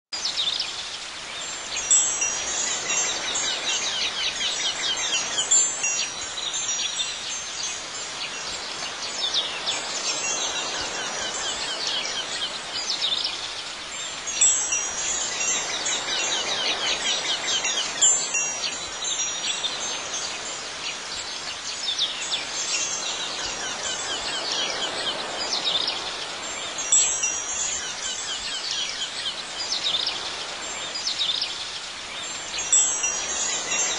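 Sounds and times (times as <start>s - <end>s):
wind chimes tinkling: 1.3s - 33.9s.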